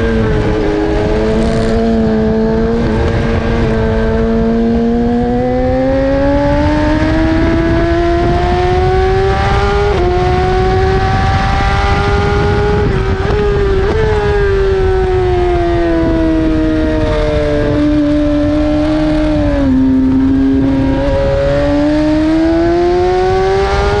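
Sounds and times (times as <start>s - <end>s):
motorcycle engine at speed: 0.0s - 24.0s
wind rushing over microphone: 0.0s - 24.0s.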